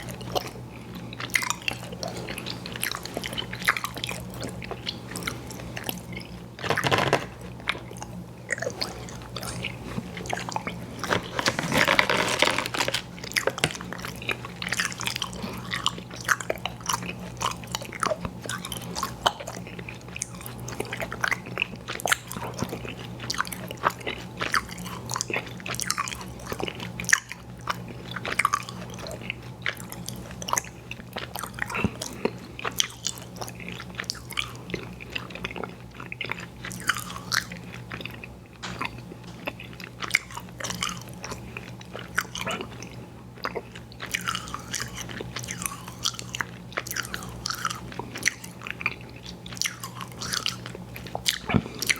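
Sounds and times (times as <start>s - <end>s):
person chewing candy: 0.0s - 51.9s.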